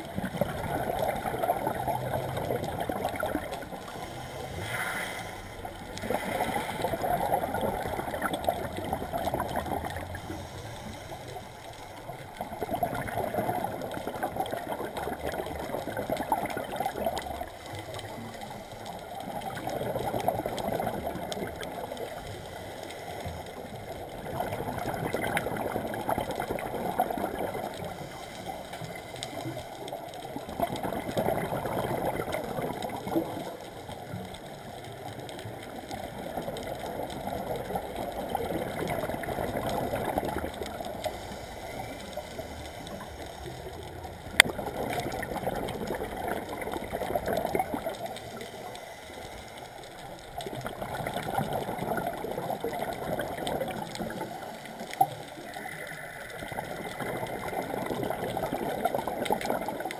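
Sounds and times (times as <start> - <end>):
diver's bubbles gurgling underwater: 0.0 - 59.9.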